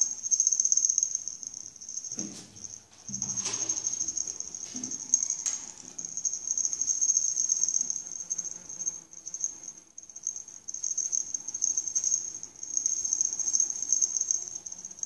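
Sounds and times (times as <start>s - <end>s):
insect chorus trilling: 0.0s - 2.1s, 3.1s - 15.0s.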